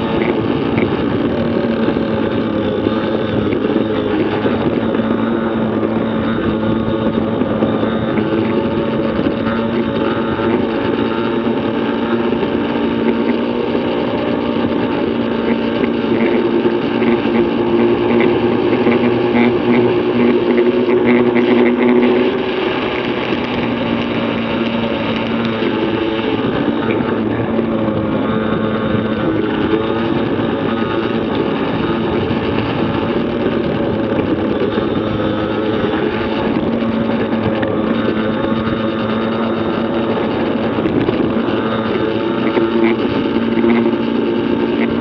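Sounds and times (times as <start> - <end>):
two-stroke minibike engine revving: 0.0 - 45.0
wind rush: 0.0 - 45.0.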